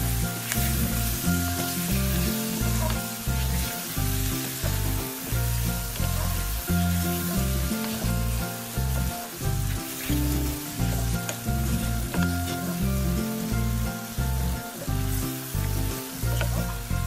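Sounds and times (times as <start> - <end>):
background music with bass line: 0.0 - 17.0
chicken and tomatoes sizzling in oil: 0.0 - 17.0
wooden spatula stirring: 0.0 - 17.0.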